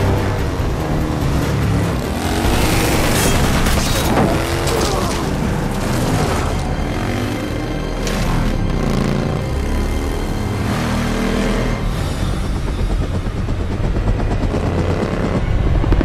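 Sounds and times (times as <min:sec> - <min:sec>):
film score music: 0:00.0 - 0:16.0
motorcycle and vehicle engines: 0:00.0 - 0:16.0.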